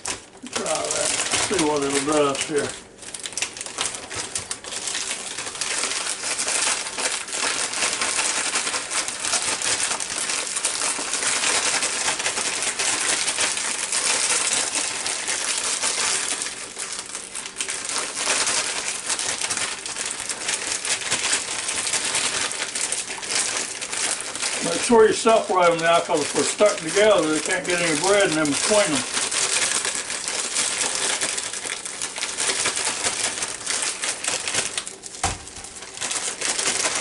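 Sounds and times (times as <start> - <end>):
plastic bag crinkling: 0.0 - 37.0.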